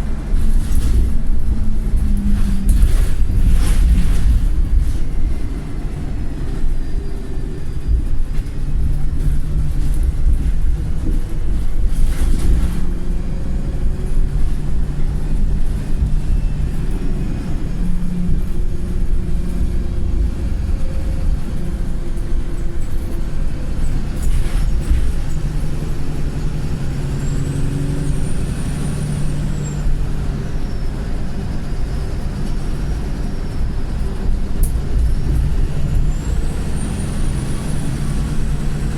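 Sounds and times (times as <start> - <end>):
bus diesel engine under load: 0.0 - 38.9.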